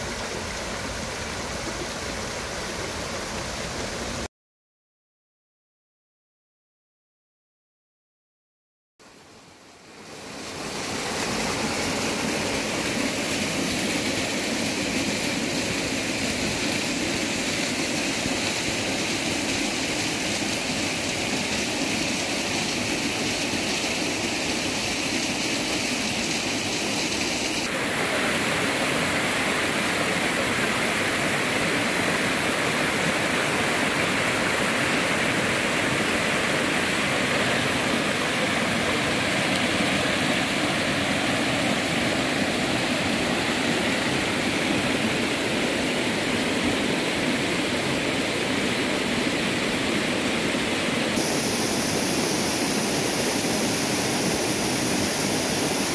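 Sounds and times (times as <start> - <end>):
stream water rushing: 0.0 - 4.3, 9.0 - 55.9.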